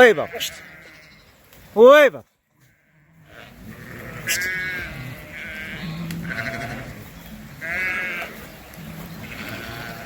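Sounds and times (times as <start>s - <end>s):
sheep bleating: 0.0s - 1.3s, 2.5s - 10.0s.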